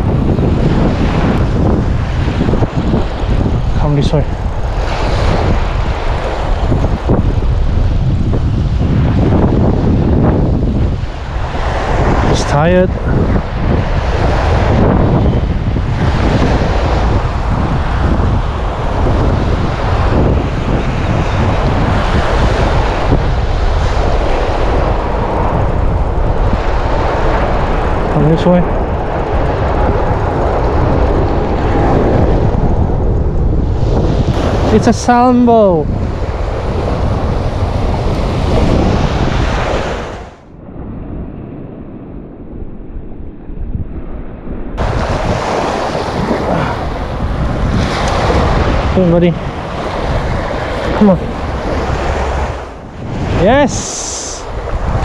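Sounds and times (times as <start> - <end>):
surf washing on beach: 0.0 - 42.2, 44.1 - 55.0
wind buffeting microphone: 0.0 - 55.0.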